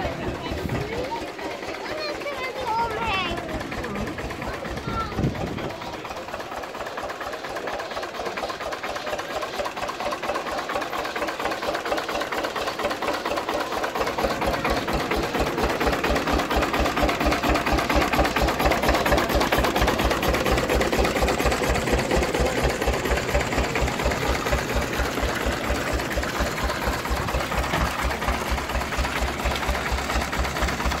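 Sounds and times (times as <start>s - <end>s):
diesel engine clattering: 0.0s - 31.0s.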